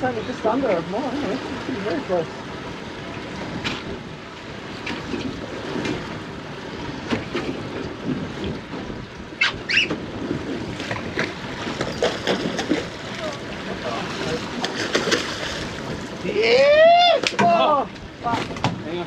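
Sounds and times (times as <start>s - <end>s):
water against boat hull: 0.0s - 19.0s
wind on microphone: 1.2s - 18.8s.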